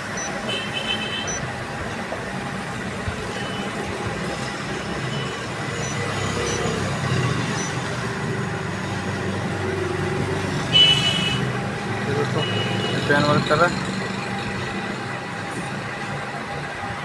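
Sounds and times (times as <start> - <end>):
tractor engine rumbling: 1.1 - 17.0.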